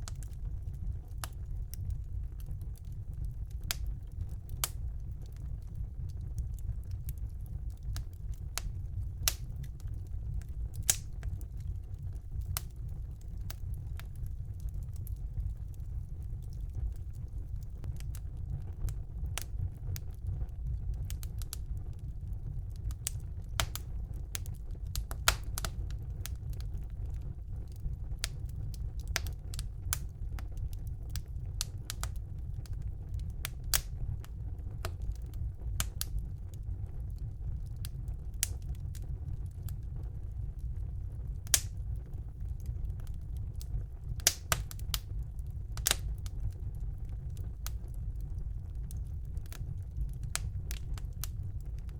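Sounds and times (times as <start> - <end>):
fire flames rumbling: 0.0 - 51.9
logs crackling and popping: 0.0 - 51.9.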